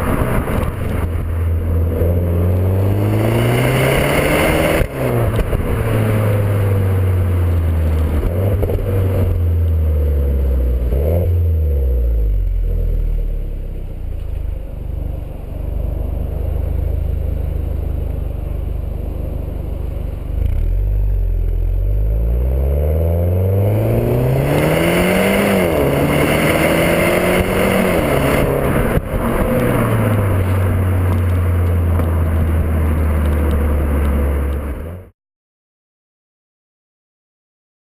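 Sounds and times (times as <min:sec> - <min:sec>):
car engine revving: 0:00.0 - 0:35.1.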